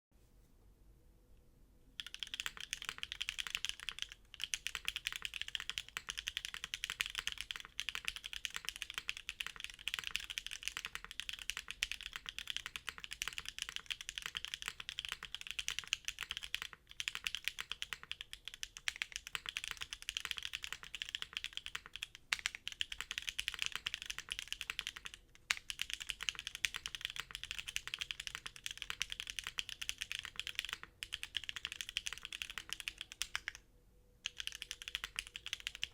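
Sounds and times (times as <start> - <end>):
fast typing on mechanical keyboard: 2.0 - 33.6, 34.2 - 35.9.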